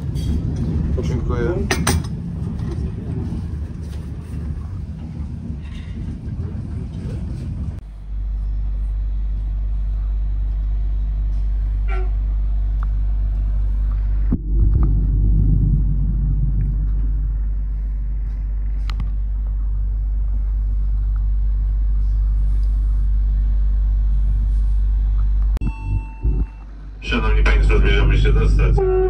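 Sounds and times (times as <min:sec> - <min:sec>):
train rumbling inside carriage: 0:00.0 - 0:29.0.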